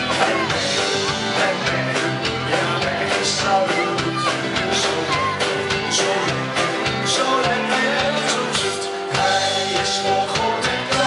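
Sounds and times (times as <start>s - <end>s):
electric guitar: 0.0s - 11.0s
person singing into microphone: 0.0s - 11.0s
steady drum beat: 0.0s - 11.0s.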